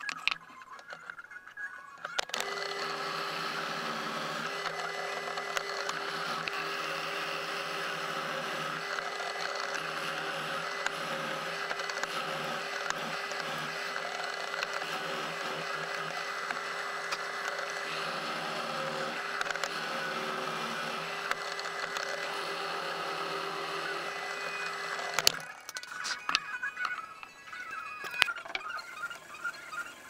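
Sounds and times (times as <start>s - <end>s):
drill press boring into wood: 2.2s - 26.4s.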